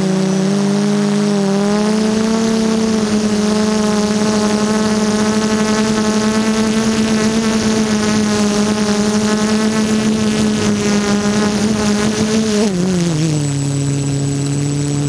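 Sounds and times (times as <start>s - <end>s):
quadcopter propellers droning: 0.0s - 15.0s.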